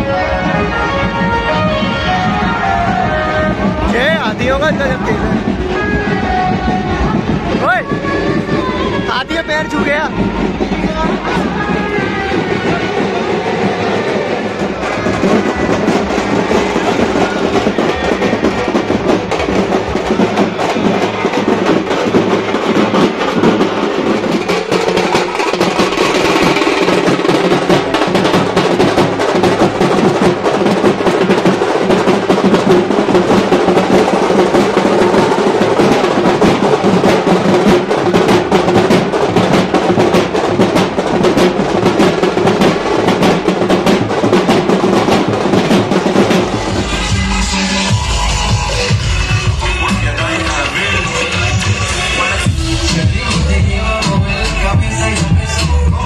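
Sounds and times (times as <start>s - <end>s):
bass drum beat: 0.0s - 56.0s
side drums rattling: 0.0s - 56.0s.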